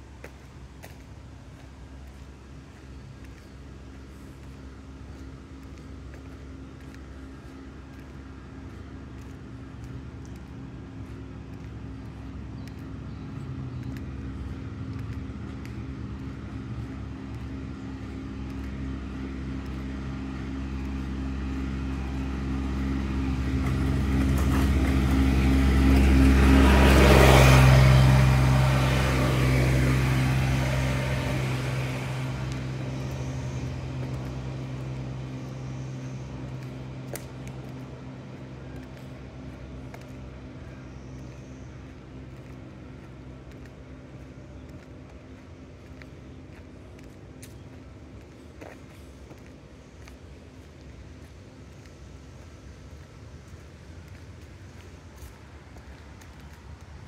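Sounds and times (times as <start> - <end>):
riding lawn mower engine: 0.0 - 57.0.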